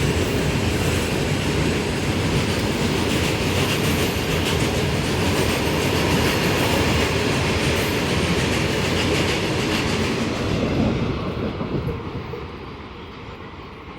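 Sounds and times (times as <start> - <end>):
freight train wheels on rails: 0.0 - 13.9.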